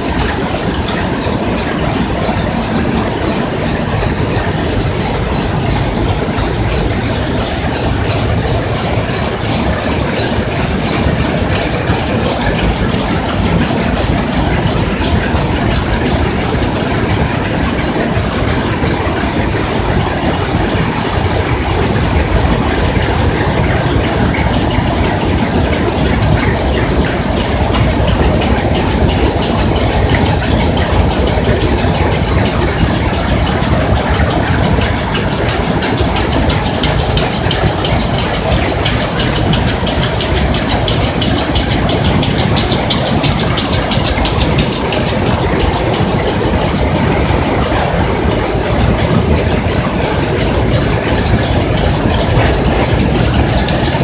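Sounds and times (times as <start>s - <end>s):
rapid high-pitched ticking: 0.0s - 54.0s
weaving looms clattering: 0.0s - 54.0s.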